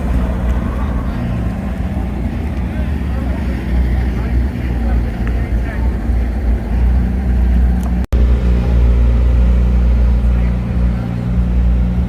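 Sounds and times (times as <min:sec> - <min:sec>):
low vehicle hum: 0:00.0 - 0:12.0.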